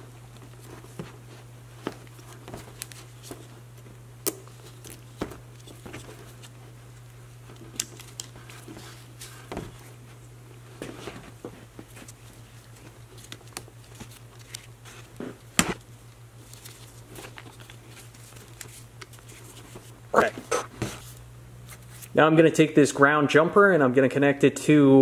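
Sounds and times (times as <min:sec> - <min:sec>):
crinkly handling noise: 0:00.0 - 0:22.2
steady low hum: 0:00.0 - 0:25.0.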